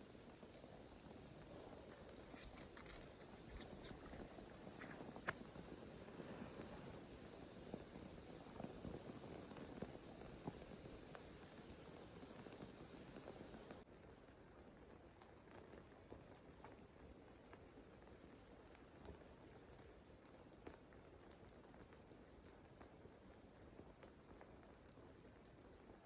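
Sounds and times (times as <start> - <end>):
small fire crackling: 0.0 - 26.0.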